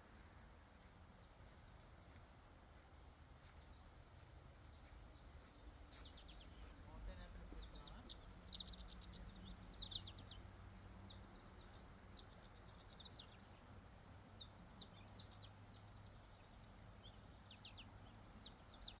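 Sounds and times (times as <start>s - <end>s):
faint low hum: 0.0s - 19.0s
bird chirping: 3.4s - 19.0s.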